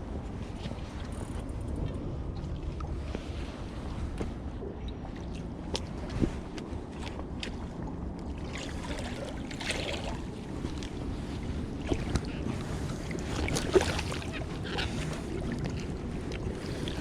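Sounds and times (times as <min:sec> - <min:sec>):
water: 0:00.0 - 0:17.0
wind: 0:00.0 - 0:17.0.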